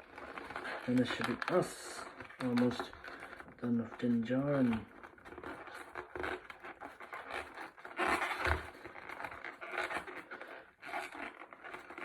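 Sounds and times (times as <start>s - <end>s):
plastic packaging scraping: 0.0s - 12.0s.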